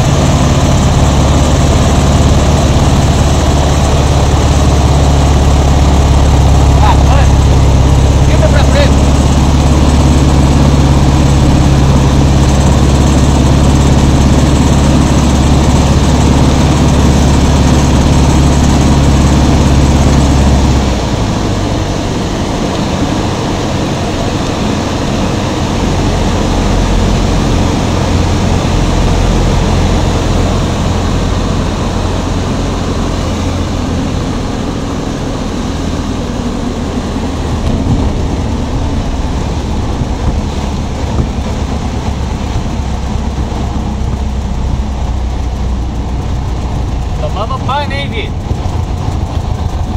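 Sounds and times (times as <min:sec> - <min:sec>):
light aircraft engine drone: 0:00.0 - 0:49.9.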